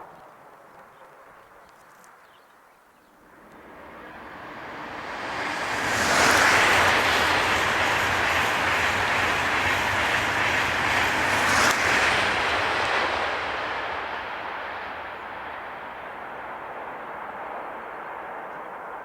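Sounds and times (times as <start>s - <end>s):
train passing: 3.2s - 19.0s.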